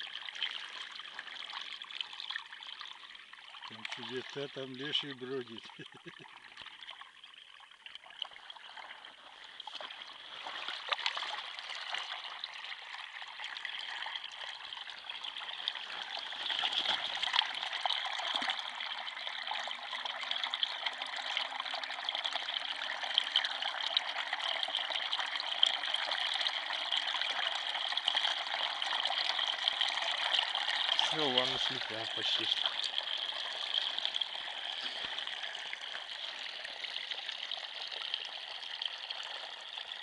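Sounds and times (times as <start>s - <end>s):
water trickling and gurgling: 0.0s - 40.0s.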